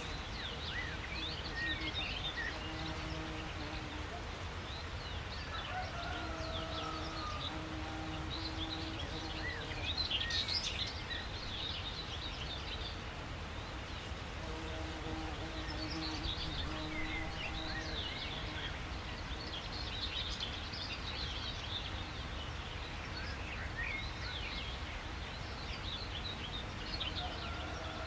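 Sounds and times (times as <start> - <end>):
songbirds chirping and twittering: 0.0 - 28.0.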